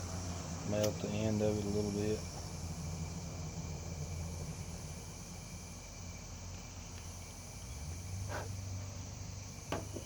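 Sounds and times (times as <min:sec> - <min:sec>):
insects chirring: 0:00.0 - 0:10.0
steady low hum: 0:00.0 - 0:10.0.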